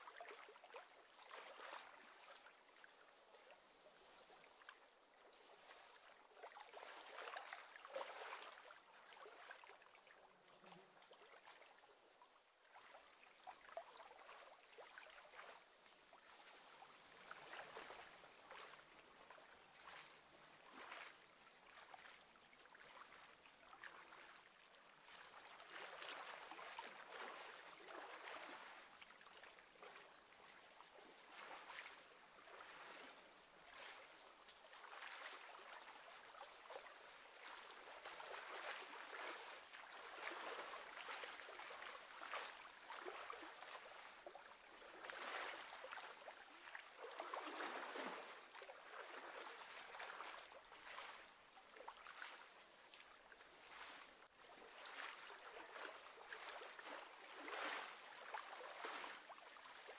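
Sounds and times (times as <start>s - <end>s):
small waves lapping: 0.1s - 59.9s.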